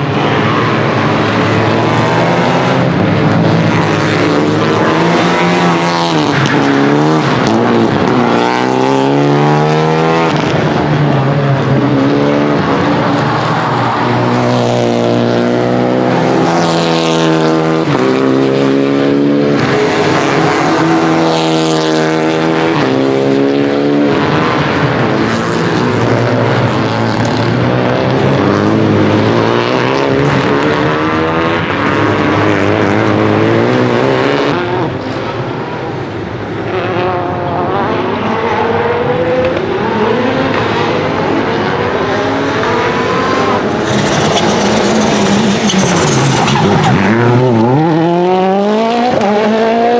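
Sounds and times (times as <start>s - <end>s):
rally car engine revving: 0.0s - 49.9s.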